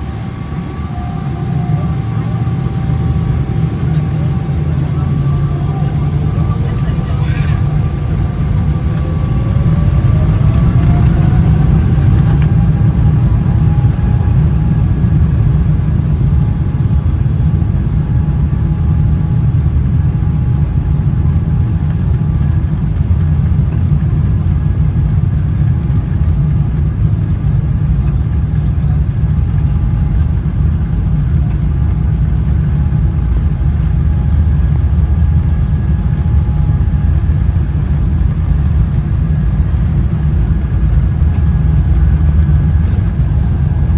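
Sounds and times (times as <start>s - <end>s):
jet engines at takeoff thrust: 0.0s - 43.9s.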